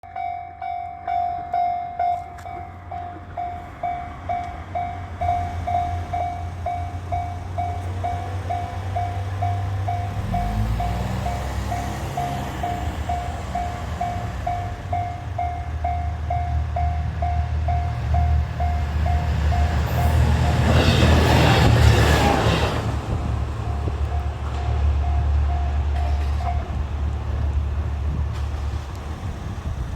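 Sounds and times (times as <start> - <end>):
diesel train engine rumble: 0.0 - 29.9
train wheels on rails: 0.6 - 29.9.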